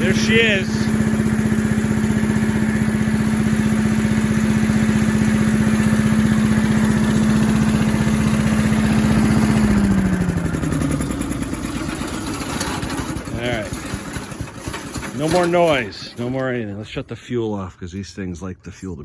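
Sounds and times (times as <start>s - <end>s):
leaf blower engine running: 0.0s - 16.6s.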